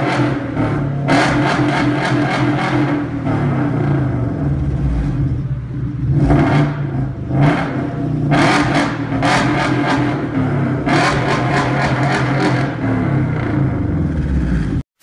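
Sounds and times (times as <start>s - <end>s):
car engine revving: 0.0s - 15.0s
exhaust crackling: 0.0s - 15.0s.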